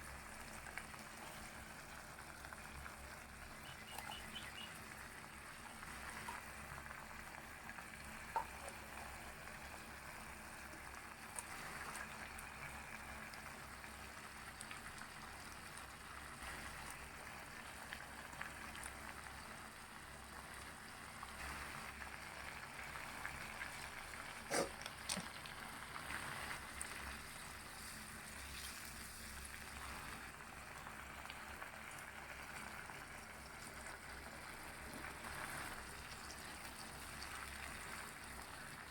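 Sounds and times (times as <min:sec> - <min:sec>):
sizzling and bubbling in a pan: 0:00.0 - 0:38.9.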